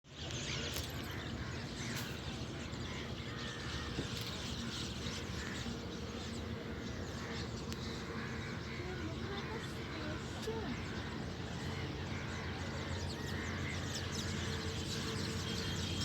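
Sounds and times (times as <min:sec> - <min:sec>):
birds chirping and calling: 0:00.1 - 0:16.0.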